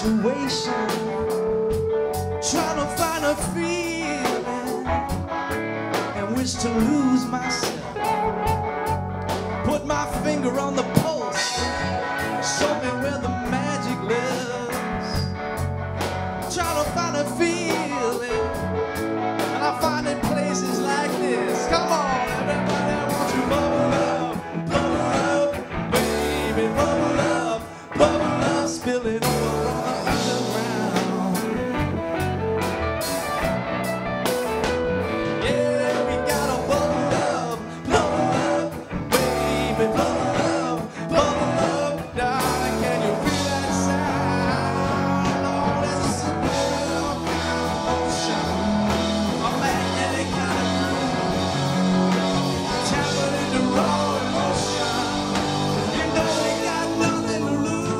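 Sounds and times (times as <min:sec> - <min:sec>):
man singing: 0:00.0 - 0:15.4, 0:16.4 - 0:18.8, 0:19.4 - 0:32.4, 0:35.1 - 0:57.9
electric bass: 0:00.0 - 0:57.9
electric guitar: 0:00.0 - 0:57.9
keyboard: 0:00.0 - 0:57.9.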